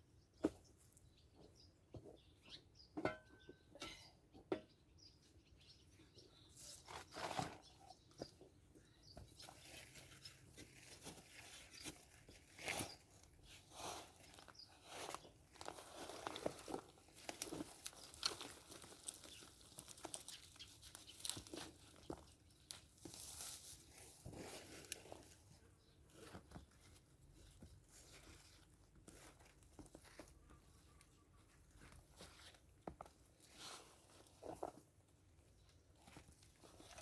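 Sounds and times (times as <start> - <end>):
soil and plant stems rustling: 6.3 - 37.0.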